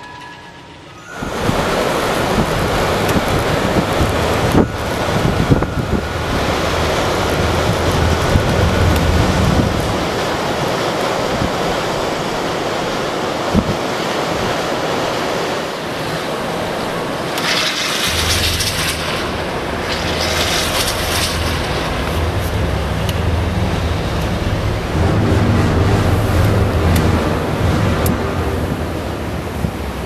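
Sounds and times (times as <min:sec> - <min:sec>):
blizzard wind rushing: 0:00.0 - 0:30.0
wind buffeting microphone: 0:01.0 - 0:30.0.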